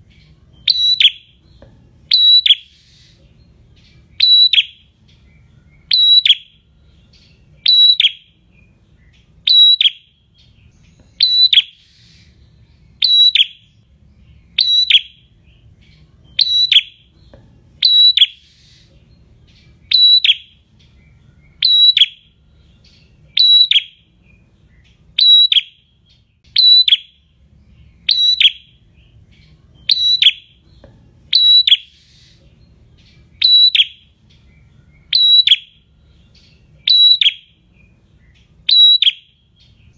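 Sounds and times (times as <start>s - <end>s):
bird singing high-pitched call: 0.0s - 39.9s.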